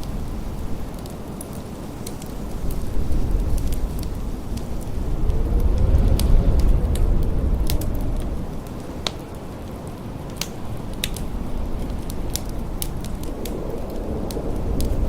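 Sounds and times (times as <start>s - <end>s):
blizzard wind howling: 0.0s - 15.0s
wood fire crackling and popping: 0.0s - 15.0s.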